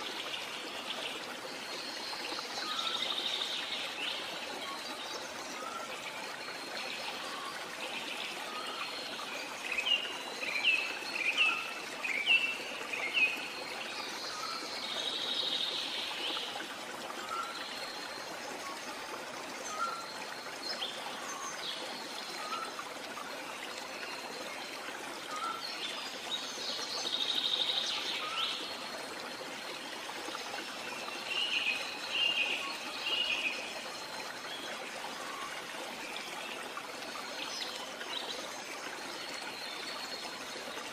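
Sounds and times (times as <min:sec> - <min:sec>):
running water hiss: 0:00.0 - 0:40.9.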